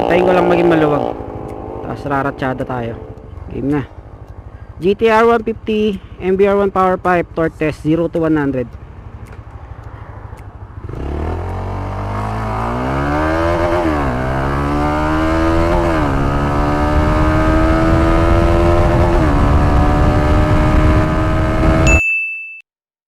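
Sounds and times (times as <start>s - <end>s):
motorcycle engine accelerating: 0.0s - 5.8s, 9.0s - 21.9s.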